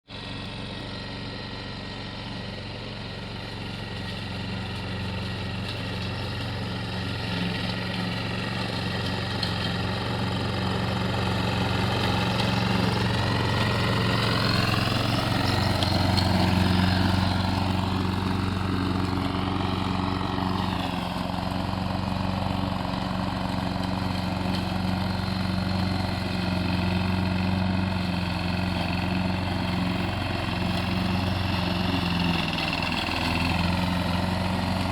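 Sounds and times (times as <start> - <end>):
lawn mower engine running: 0.1 - 34.9.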